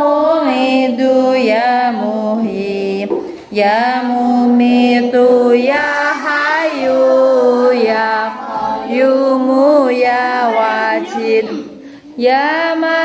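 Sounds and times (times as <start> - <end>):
person singing chant-like prayer: 0.0 - 13.0.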